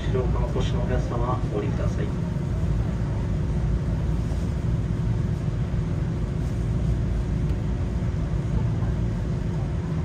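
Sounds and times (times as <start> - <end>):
faint steady hum: 0.0 - 10.0
streetcar rumble: 0.0 - 10.0.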